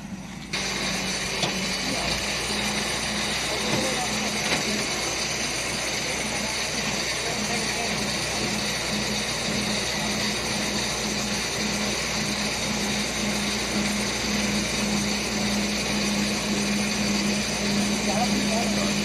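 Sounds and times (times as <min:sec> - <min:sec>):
machine engine humming: 0:00.0 - 0:19.0
high whine: 0:00.5 - 0:19.0.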